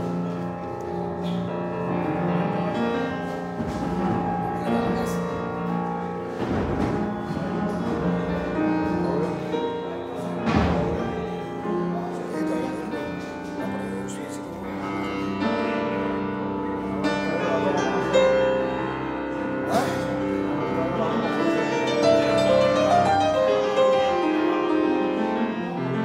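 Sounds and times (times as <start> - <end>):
solo grand piano: 0.0 - 26.0.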